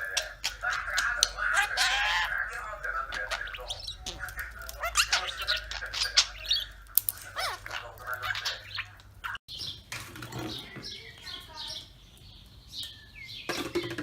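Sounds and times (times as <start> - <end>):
parrots chirping and squawking: 0.0 - 14.0.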